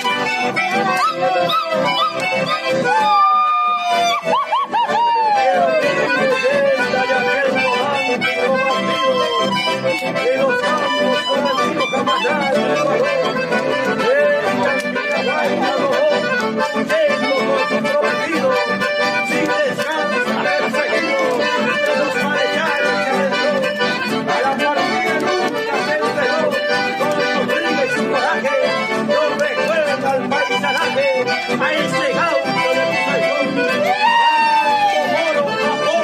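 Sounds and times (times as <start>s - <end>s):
accordion folk tune: 0.0s - 36.0s.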